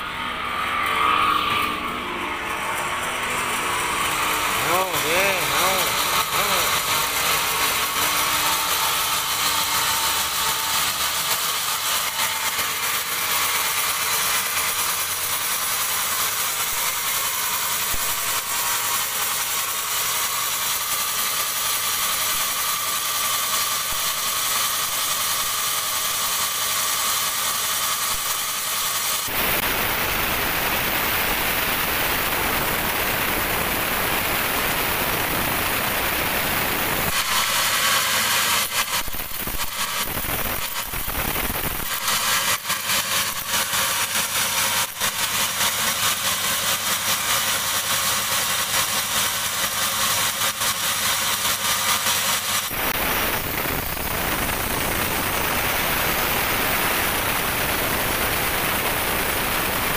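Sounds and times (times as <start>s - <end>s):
saw blade cutting log: 0.0s - 59.9s
sawmill machine whine: 0.0s - 59.9s.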